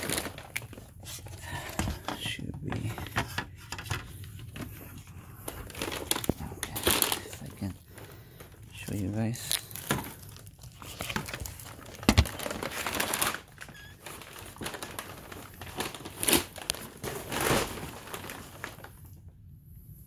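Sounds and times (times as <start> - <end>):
packing paper crinkling: 0.0 - 19.2.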